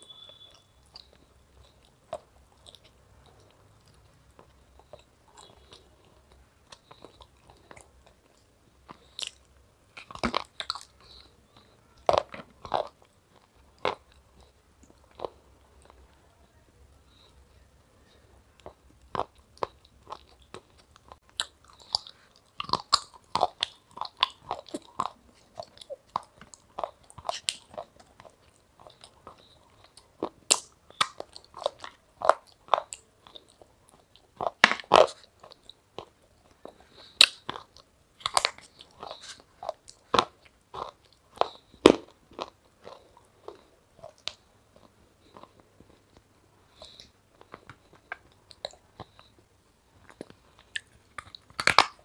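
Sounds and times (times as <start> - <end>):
person crunching and chewing: 0.0 - 16.2, 18.1 - 52.0.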